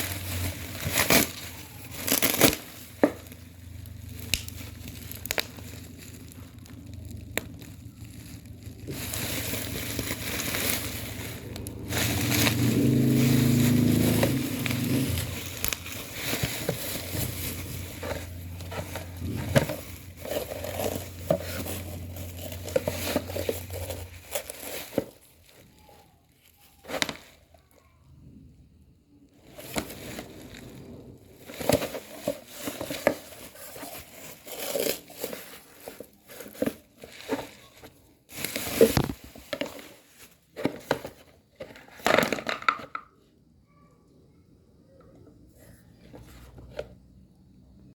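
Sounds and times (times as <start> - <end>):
packaging crinkling and rustling: 0.0 - 28.0, 29.3 - 43.0.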